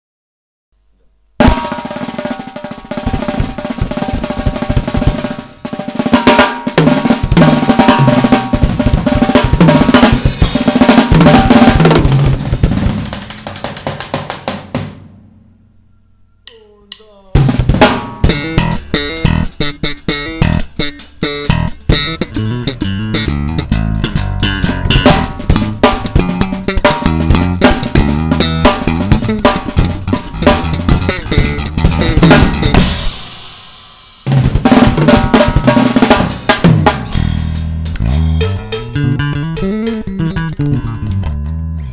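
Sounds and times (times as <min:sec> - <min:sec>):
drum kit played hard: 0:01.4 - 0:15.4, 0:16.4 - 0:41.0
music with bass line: 0:01.4 - 0:41.9.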